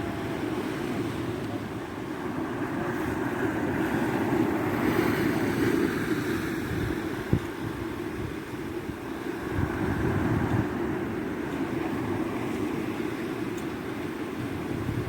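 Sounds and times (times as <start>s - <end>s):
surf on rocky shore: 0.0s - 15.0s
wind rumbling on microphone: 0.0s - 15.0s.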